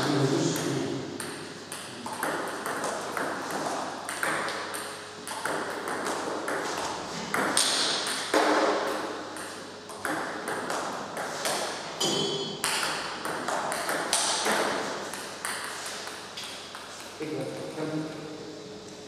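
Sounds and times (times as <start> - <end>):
table tennis ball hitting bats: 0.4 - 17.7
ball bouncing on table: 0.5 - 17.1.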